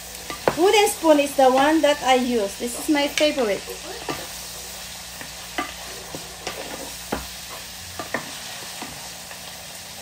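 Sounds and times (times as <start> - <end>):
meat sizzling in a frying pan: 0.0 - 10.0
wooden spoons scraping a pan: 0.2 - 9.4.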